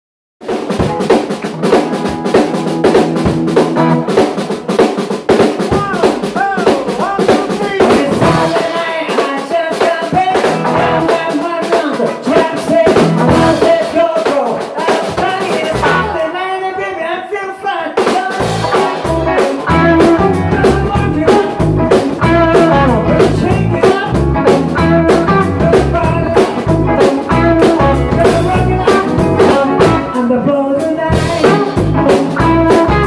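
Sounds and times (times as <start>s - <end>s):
bass guitar: 0.4s - 9.0s, 10.1s - 11.3s, 12.0s - 14.0s, 14.9s - 16.4s, 18.4s - 33.0s
drum kit beating: 0.4s - 16.4s, 18.0s - 33.0s
electric guitars: 0.4s - 16.4s, 18.0s - 33.0s
man singing: 5.6s - 33.0s.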